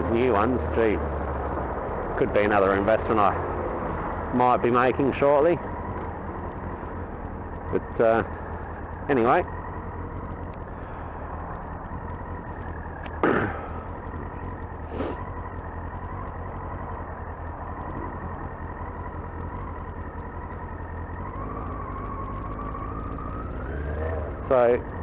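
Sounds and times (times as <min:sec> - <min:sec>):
motorcycle engine cruising: 0:00.0 - 0:25.0
wind rumble: 0:00.0 - 0:25.0.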